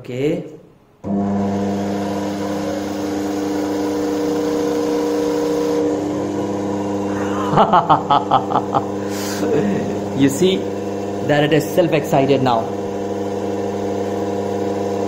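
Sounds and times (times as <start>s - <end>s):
electric motor hum: 1.0s - 15.0s.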